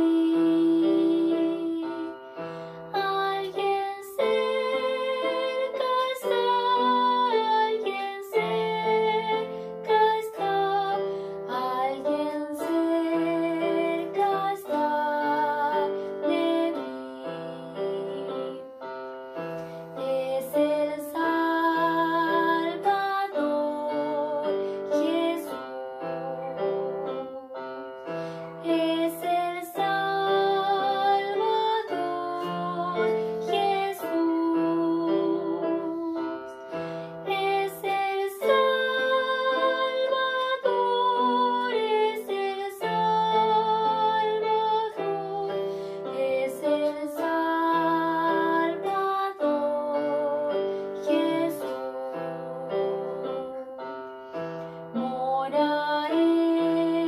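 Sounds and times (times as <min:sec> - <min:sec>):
woman singing: 0:00.0 - 0:18.8, 0:19.8 - 0:27.6, 0:28.4 - 0:53.9, 0:54.9 - 0:57.0.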